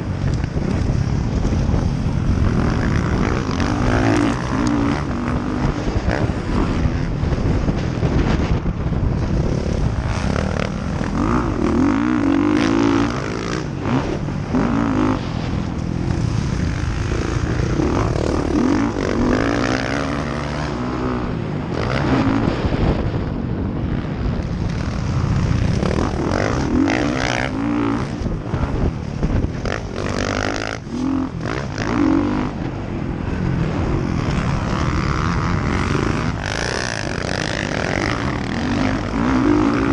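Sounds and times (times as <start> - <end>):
dirt bike engine revving: 0.0 - 39.9
wind rushing over microphone: 0.0 - 39.9.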